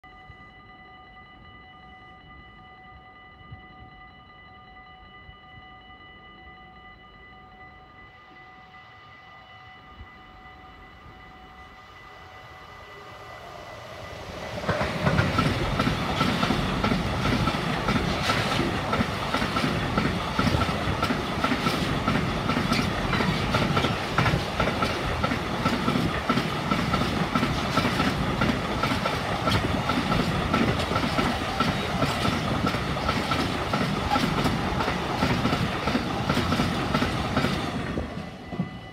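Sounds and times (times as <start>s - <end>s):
freight train passing: 0.0s - 38.9s
steady high ring: 0.0s - 38.9s.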